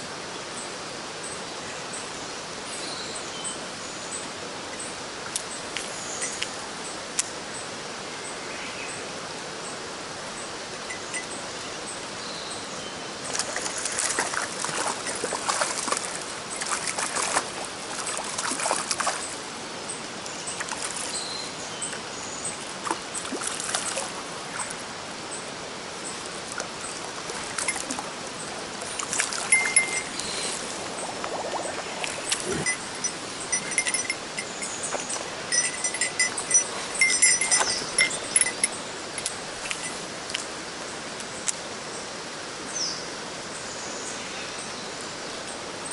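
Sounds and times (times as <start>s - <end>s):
stream water running: 0.0s - 45.9s.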